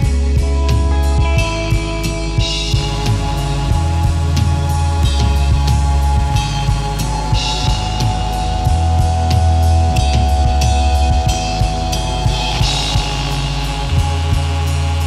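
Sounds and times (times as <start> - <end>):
heavy bass line: 0.0 - 15.0
kick and snare drum beat: 0.0 - 15.0
psychedelic rock instrumental: 0.0 - 15.0.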